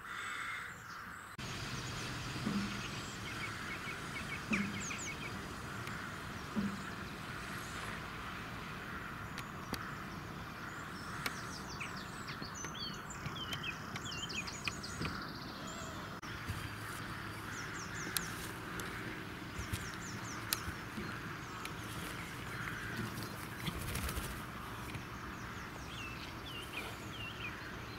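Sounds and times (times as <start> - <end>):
small birds chirping: 0.0 - 27.9
steady background rumble: 1.4 - 27.9.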